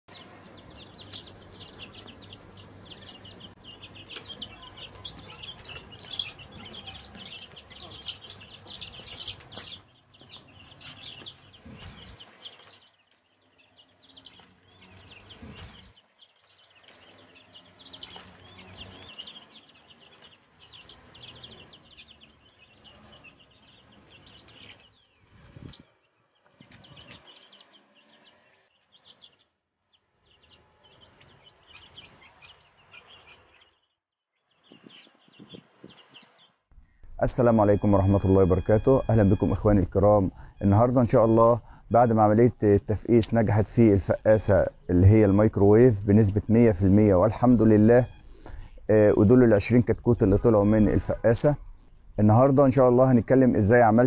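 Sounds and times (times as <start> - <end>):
chicks peeping: 0.1 - 54.0.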